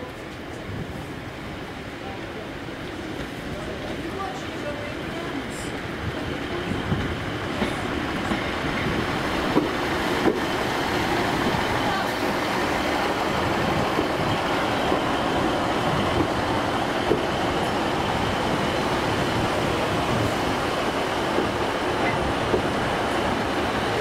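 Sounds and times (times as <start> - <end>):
diesel train engine rumble: 0.0 - 24.0.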